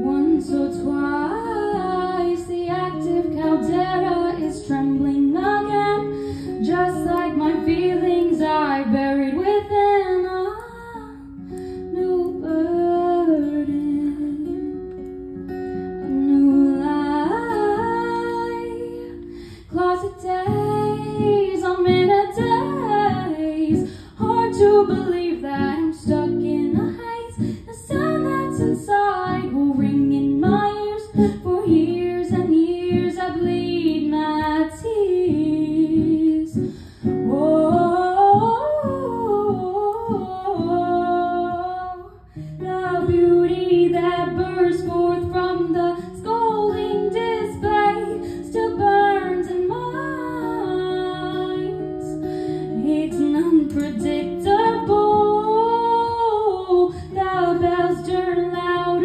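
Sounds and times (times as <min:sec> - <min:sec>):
acoustic guitar: 0:00.0 - 0:59.0
woman singing: 0:00.0 - 0:59.0.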